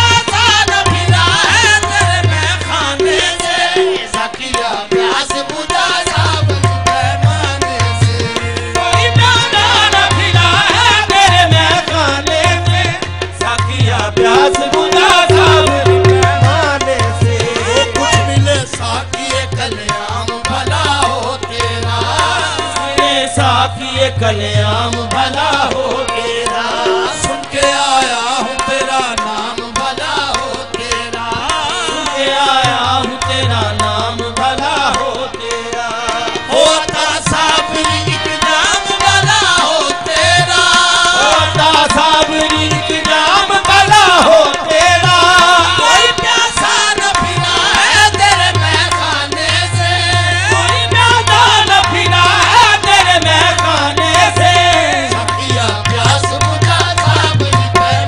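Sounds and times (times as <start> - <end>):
melodic singing voices: 0.0 - 58.0
tabla drumming: 0.0 - 58.0.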